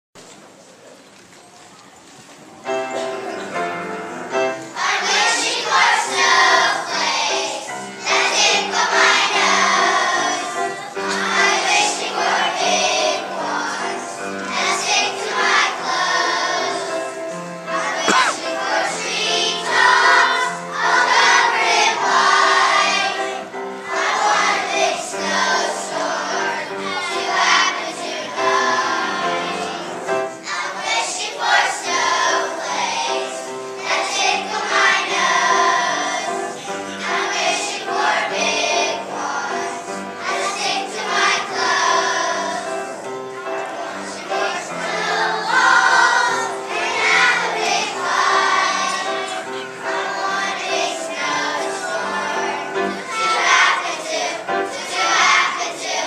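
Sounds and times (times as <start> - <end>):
children's choir singing: 2.5 - 56.0.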